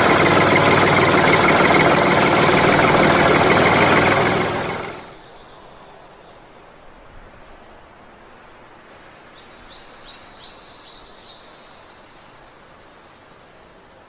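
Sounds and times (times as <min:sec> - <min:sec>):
faint outdoor background noise: 0:00.0 - 0:14.0.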